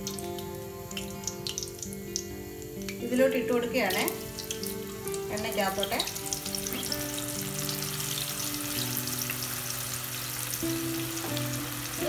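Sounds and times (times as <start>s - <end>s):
slices sizzling in hot oil: 0.0s - 12.0s.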